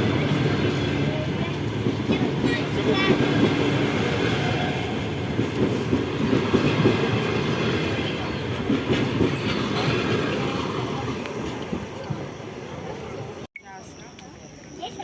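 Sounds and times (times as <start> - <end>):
train wheels rumbling on rails: 0.0 - 13.5.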